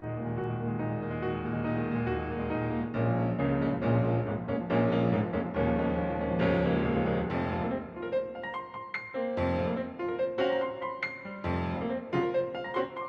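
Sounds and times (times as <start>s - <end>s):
piano: 0.0s - 13.0s.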